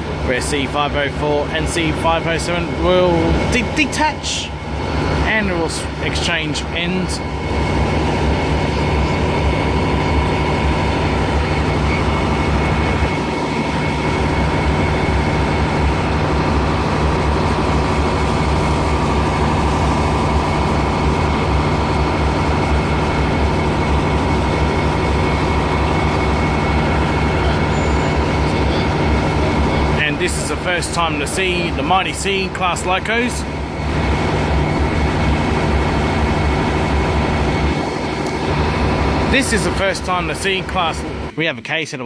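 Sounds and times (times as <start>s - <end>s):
locomotive diesel engines throbbing: 0.0s - 41.4s.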